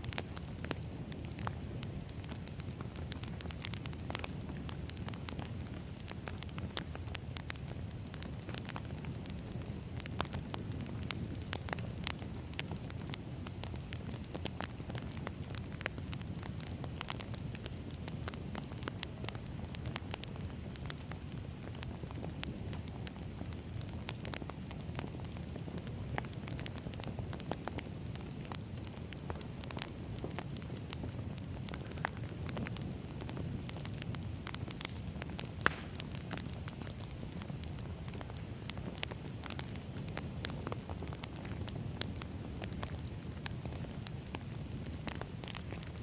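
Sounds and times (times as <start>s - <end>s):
burning logs crackling and popping: 0.0s - 46.0s
low rumble of flames: 0.0s - 46.0s.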